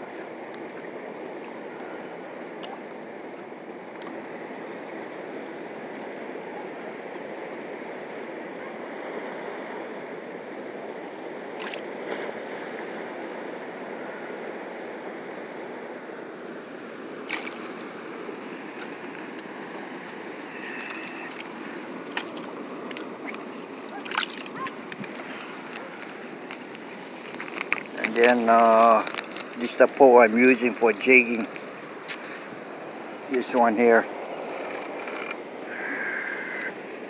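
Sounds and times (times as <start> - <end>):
rushing outdoor background noise: 0.0 - 37.0.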